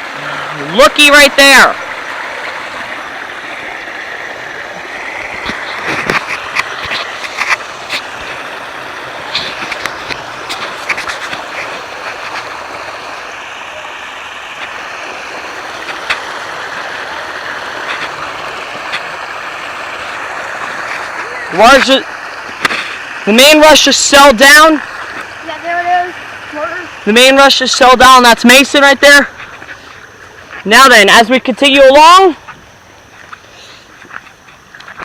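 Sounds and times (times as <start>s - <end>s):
water rushing over waterfall: 0.0s - 29.4s
sharp ticks and splashes: 0.0s - 35.0s.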